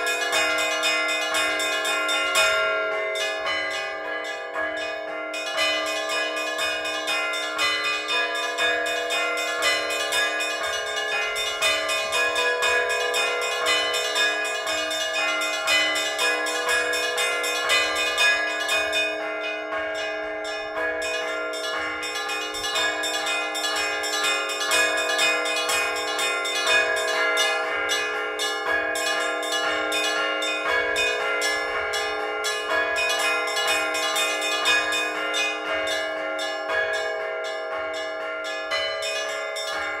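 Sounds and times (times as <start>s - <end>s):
large bells ringing hum: 0.0s - 40.0s
small bells struck rhythmically: 0.0s - 40.0s.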